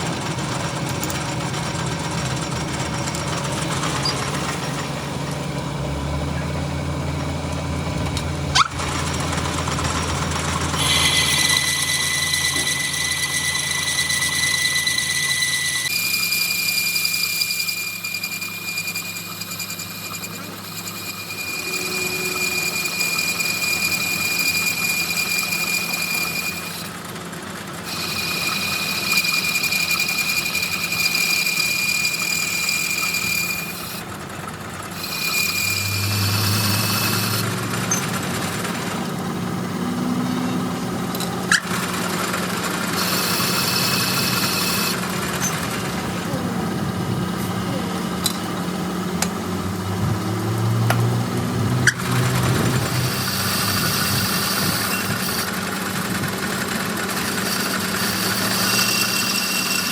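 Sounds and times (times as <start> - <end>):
machine high-pitched whine: 0.0 - 59.9.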